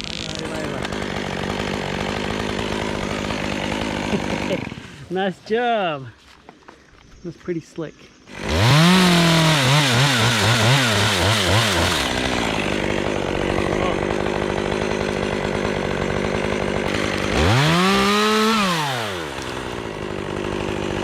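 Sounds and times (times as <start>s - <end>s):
chainsaw cutting wood: 0.0s - 5.1s, 8.3s - 21.0s.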